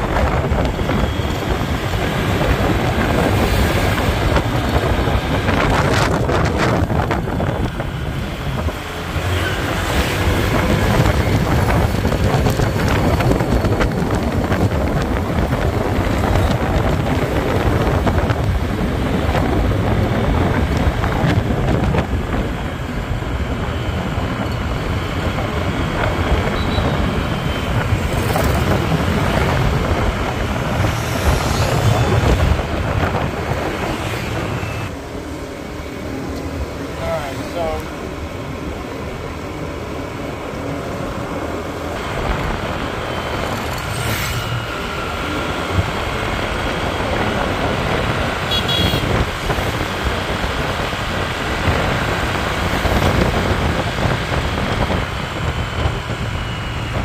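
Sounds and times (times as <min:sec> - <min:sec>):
road and traffic noise: 0:00.0 - 0:57.0
wind buffeting microphone: 0:00.0 - 0:57.0.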